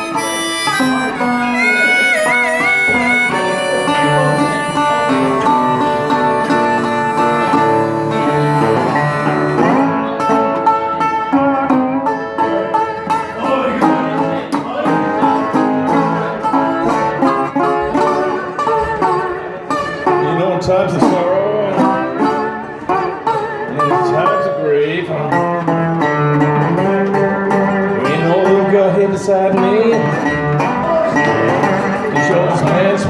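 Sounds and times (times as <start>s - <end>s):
blues guitar picking notes: 0.0s - 33.0s.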